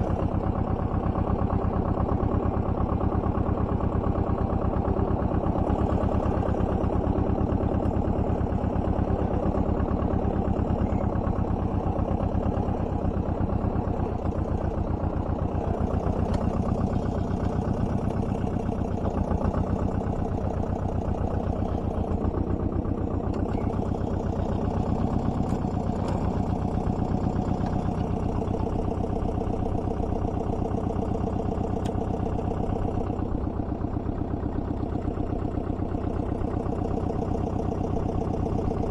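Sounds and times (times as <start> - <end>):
small tractor engine running: 0.0 - 38.9.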